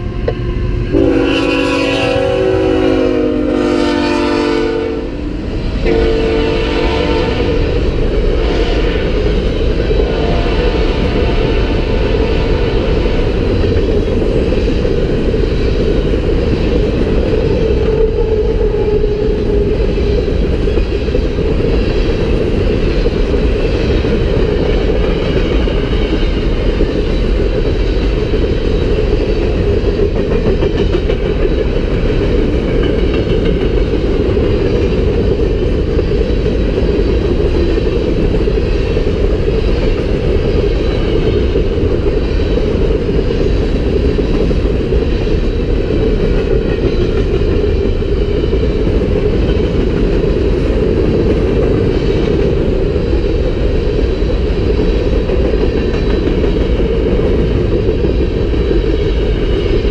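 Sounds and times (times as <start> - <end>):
steel wheels running on rails: 0.0 - 59.9.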